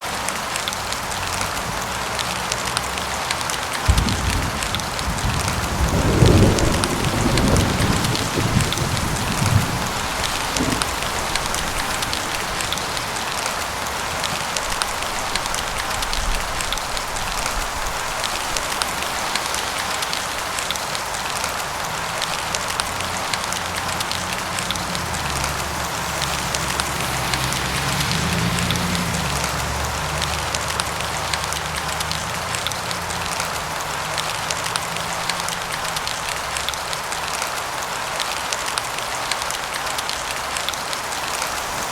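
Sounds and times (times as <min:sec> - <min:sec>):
heavy rain on hard surfaces: 0:00.0 - 0:41.9.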